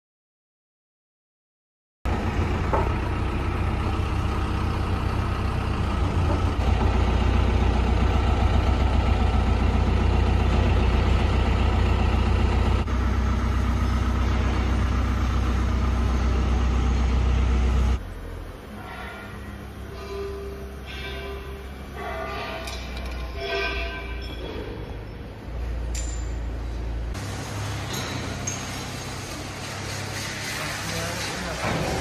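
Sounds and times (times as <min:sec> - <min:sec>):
excavator diesel engine humming: 0:02.1 - 0:32.0.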